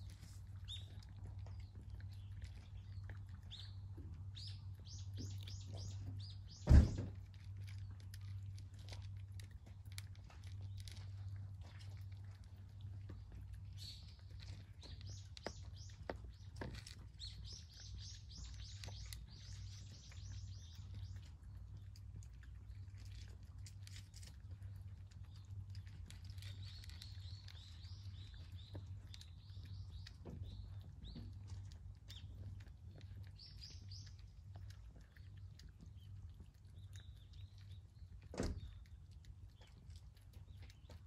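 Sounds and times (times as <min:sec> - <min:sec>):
cat eating from a bowl: 0:00.0 - 0:41.0
small birds chirping: 0:00.0 - 0:41.0.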